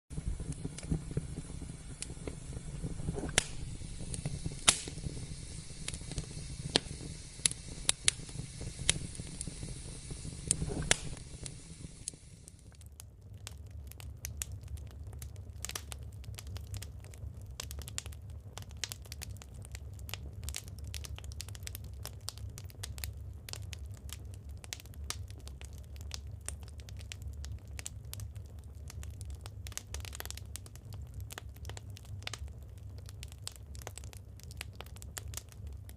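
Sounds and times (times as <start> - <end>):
burning logs popping: 0.1 - 35.9
low rumble of flames: 0.1 - 35.9
wood fire crackling: 0.1 - 35.9.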